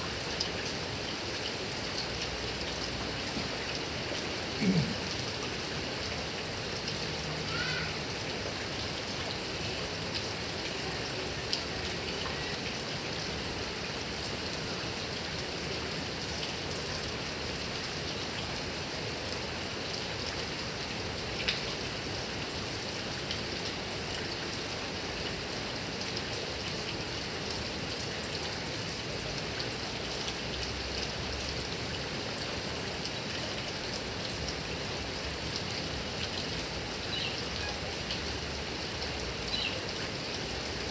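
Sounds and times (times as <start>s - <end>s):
heavy rain on grass and trees: 0.0s - 40.9s.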